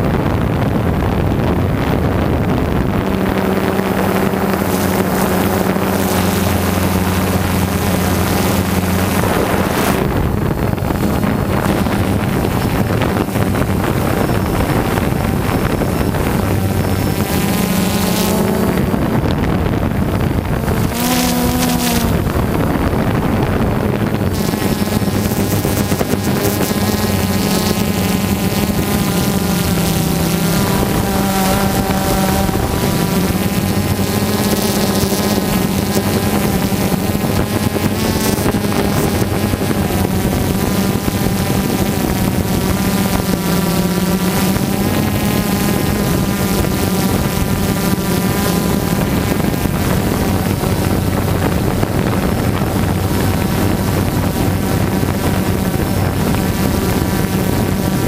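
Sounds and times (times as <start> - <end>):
drone propellers buzzing: 0.0 - 58.0
wind noise: 0.0 - 58.0.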